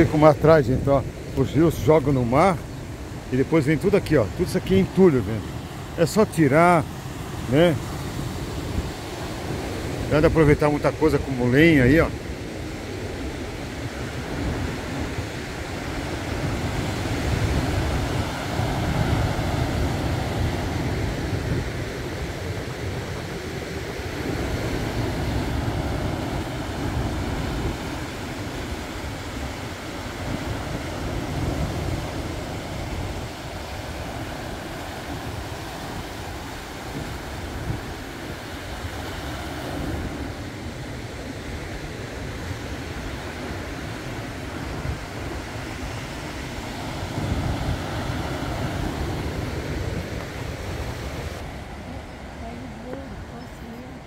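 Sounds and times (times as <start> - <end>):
sea surf rushing: 0.0 - 54.0
wind rumbling on microphone: 0.0 - 54.0.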